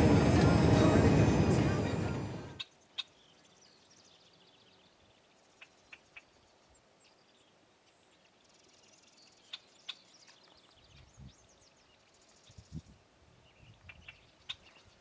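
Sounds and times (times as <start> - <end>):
songbirds chirping and trilling: 2.6 - 15.0.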